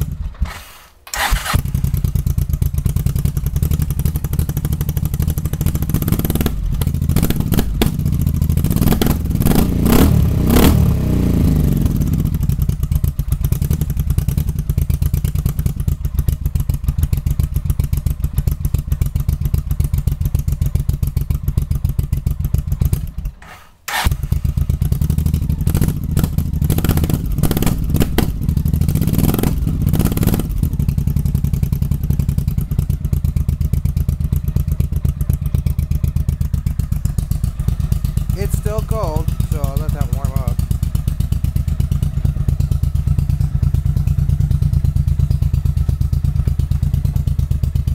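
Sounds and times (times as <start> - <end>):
engine popping: 0.0 - 47.9
motorcycle engine idling: 0.0 - 47.9
motorcycle engine revving: 0.0 - 47.9.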